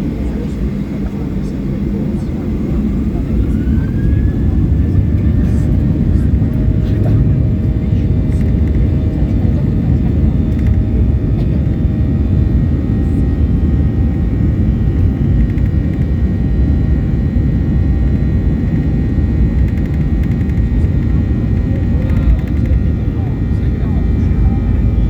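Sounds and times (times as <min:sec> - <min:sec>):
airplane cabin low rumble: 0:00.0 - 0:25.0.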